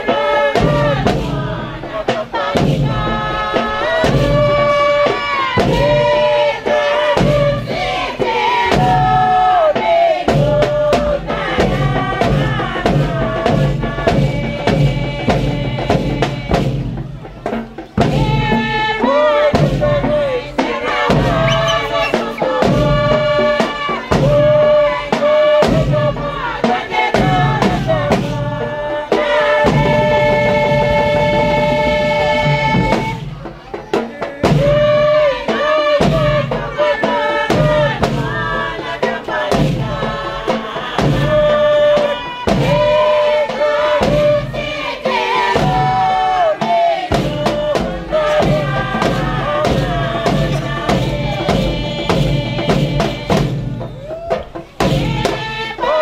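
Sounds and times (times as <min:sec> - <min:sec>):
group singing: 0:00.0 - 0:56.0
steady drum beat: 0:00.0 - 0:56.0.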